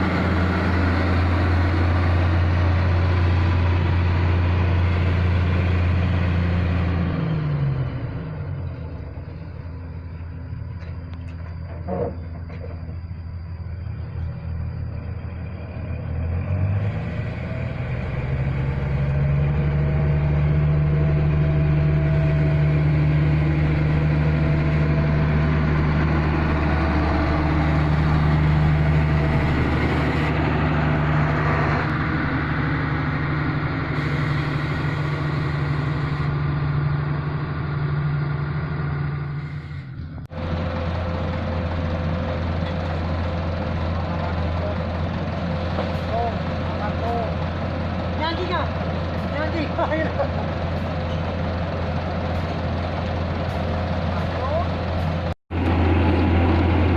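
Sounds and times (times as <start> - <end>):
heavy diesel engine revving: 0.0 - 10.0, 13.9 - 56.9.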